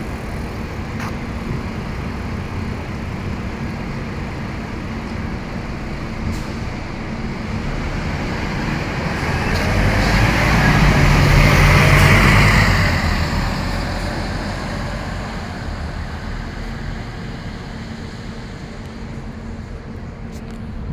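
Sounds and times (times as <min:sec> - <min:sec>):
heavy vehicle passing: 0:00.0 - 0:18.8
low engine hum: 0:00.0 - 0:20.9.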